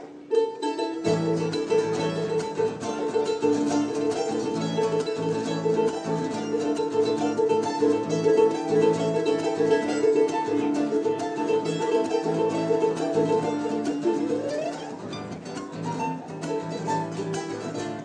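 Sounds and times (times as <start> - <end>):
charango and guitar duet: 0.0 - 18.0.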